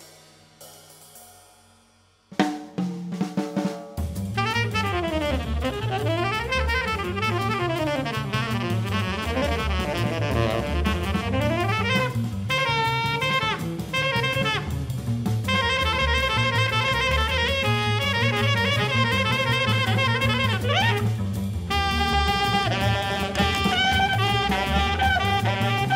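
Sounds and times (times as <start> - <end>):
drum kit: 0.0 - 25.9
walking double bass: 4.2 - 25.9
tenor saxophone: 4.3 - 25.9.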